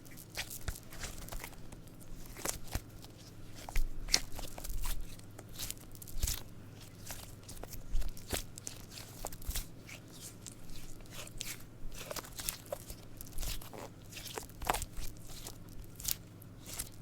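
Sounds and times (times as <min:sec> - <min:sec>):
squishy toy crinkling squish: 0:00.0 - 0:17.0.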